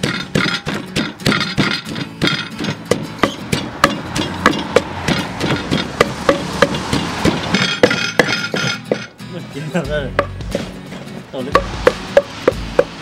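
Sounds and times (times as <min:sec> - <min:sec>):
wooden pestle pounding in mortar: 0:00.0 - 0:09.1, 0:11.5 - 0:13.0.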